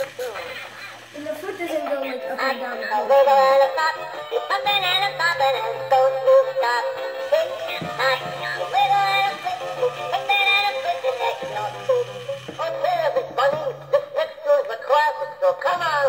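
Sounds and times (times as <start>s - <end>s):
tinny toy singing melody: 0.0s - 16.0s.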